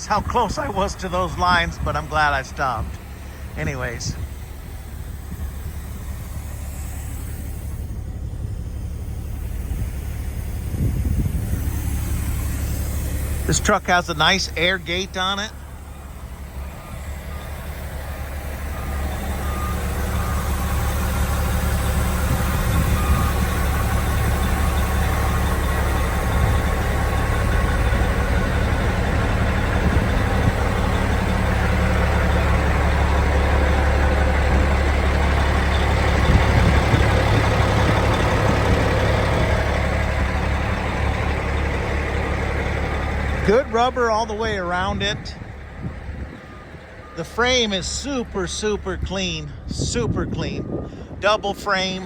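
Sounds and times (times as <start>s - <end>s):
diesel truck engine rumbling: 0.0s - 52.0s.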